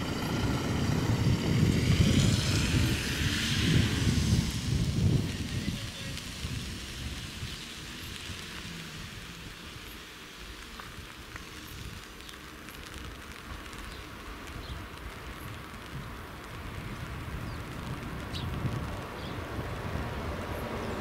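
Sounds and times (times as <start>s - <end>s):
rain hissing on pavement: 0.0s - 21.0s.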